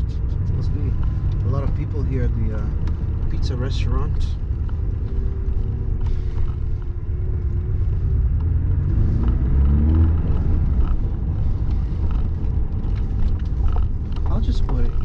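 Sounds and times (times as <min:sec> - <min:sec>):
car engine running deep and steady: 0:00.0 - 0:15.0.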